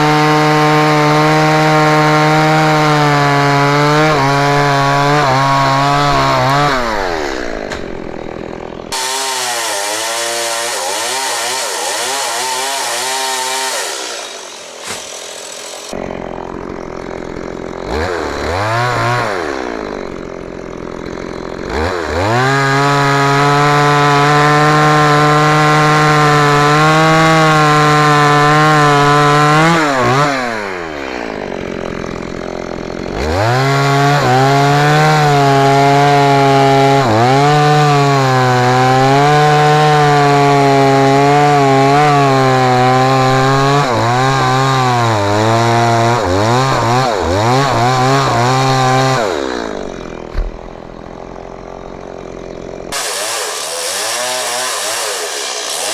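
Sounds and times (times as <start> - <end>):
chainsaw revving and idling: 0.0 - 55.9.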